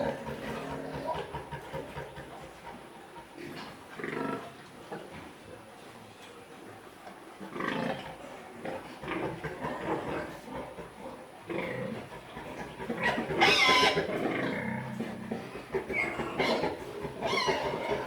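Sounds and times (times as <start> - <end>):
pigs grunting and squealing: 0.0 - 4.6, 7.5 - 18.0.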